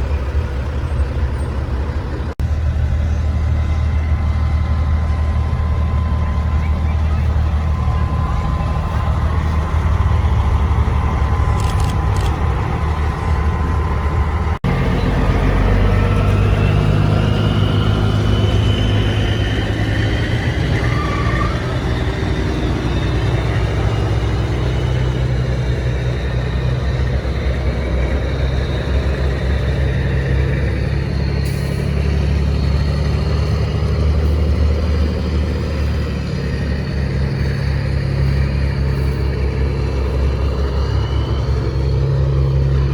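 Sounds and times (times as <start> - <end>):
truck diesel engine rumbling: 0.0 - 42.9.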